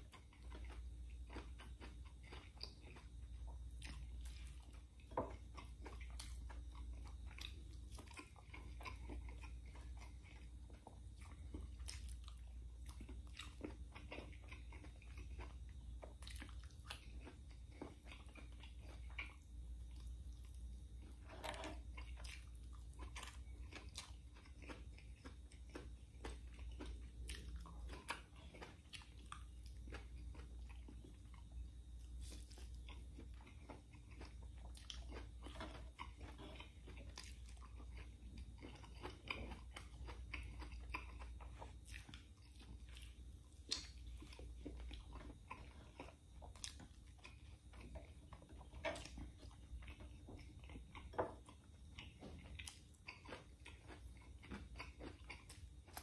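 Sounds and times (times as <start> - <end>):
man chewing and lip-smacking: 0.0 - 56.0
steady low hum: 0.0 - 56.0.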